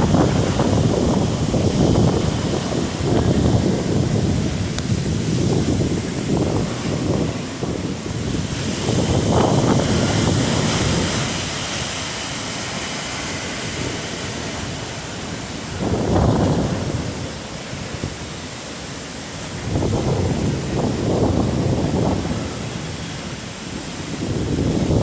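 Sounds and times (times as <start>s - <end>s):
strong wind gusts buffeting microphone: 0.0s - 25.0s.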